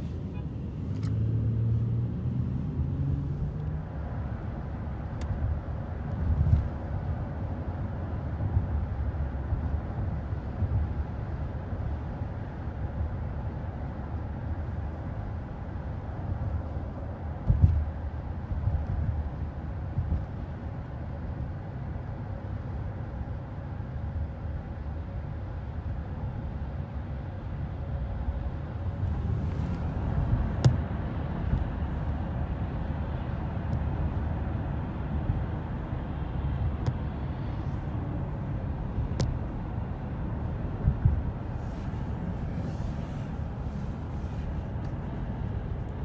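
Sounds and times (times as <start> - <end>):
car cabin road and engine rumble: 0.0 - 46.0.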